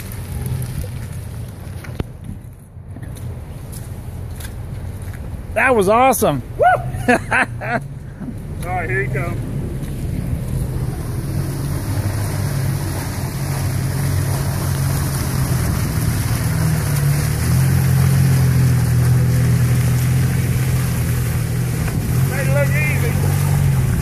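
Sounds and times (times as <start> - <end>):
car engine driving through mud: 0.0 - 24.0.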